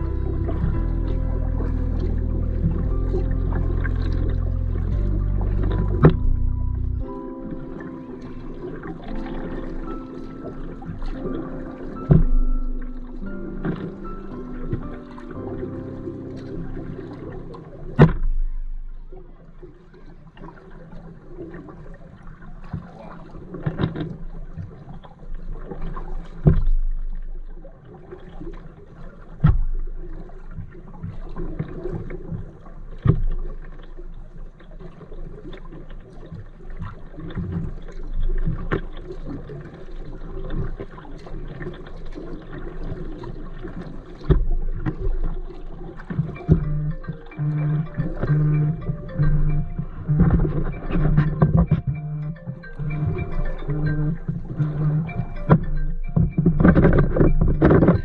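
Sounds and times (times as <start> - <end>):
paddle splashing in water: 0.0 - 58.0.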